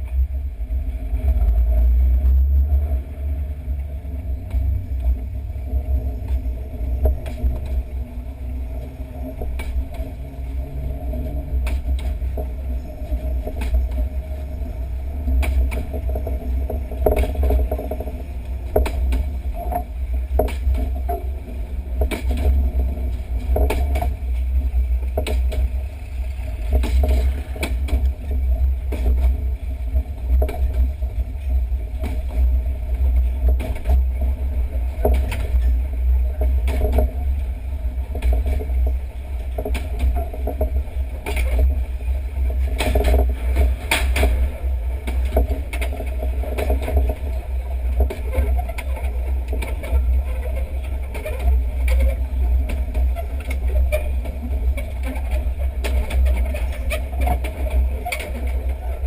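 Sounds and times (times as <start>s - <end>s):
train running: 0.0s - 59.0s
wheels knocking on track: 1.2s - 59.0s.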